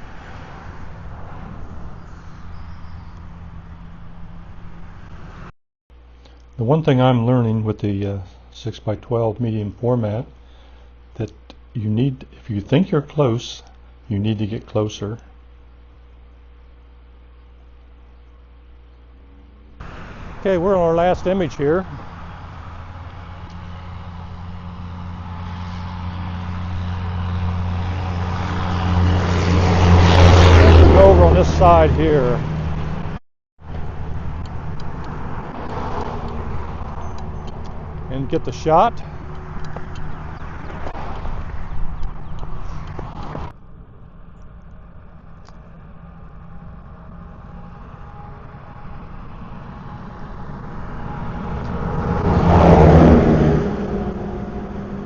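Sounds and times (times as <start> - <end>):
engine drone approaching: 0.0 - 11.2, 11.8 - 55.0.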